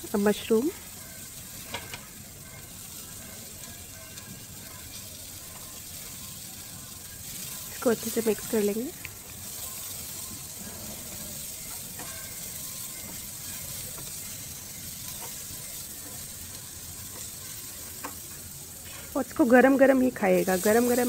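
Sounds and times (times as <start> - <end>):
vegetables sizzling in oil: 0.0 - 21.0
spatula tapping pan: 1.0 - 18.6.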